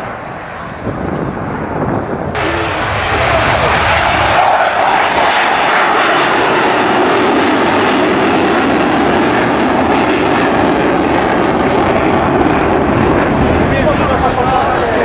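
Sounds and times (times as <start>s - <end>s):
aircraft flying past: 0.0s - 15.0s.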